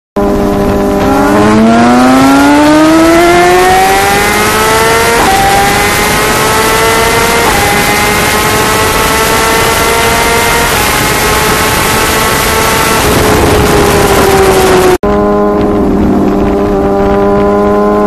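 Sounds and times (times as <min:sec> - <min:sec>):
motorcycle engine accelerating: 0:00.2 - 0:18.0
wind rush: 0:00.2 - 0:18.0.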